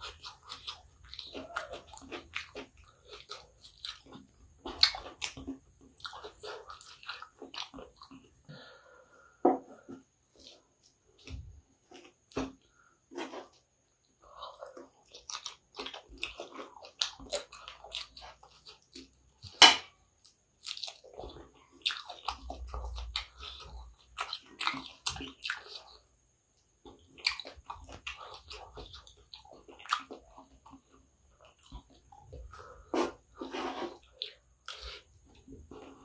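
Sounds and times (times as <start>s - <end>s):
close chewing and mouth sounds: 0.0s - 9.0s, 9.8s - 36.0s.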